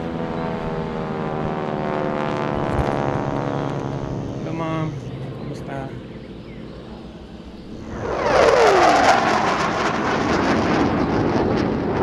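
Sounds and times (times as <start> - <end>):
light aircraft passing overhead: 0.0 - 12.0.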